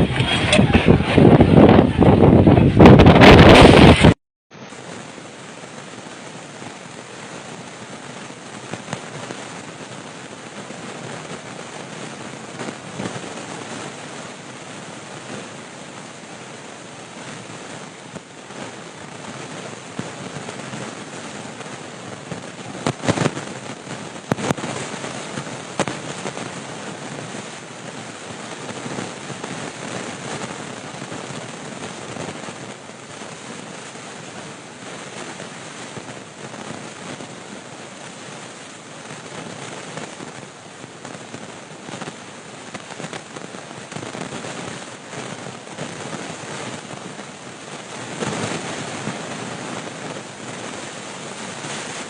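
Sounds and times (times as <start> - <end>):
heavy rain: 0.0 - 52.0
storm wind roaring: 0.0 - 52.0.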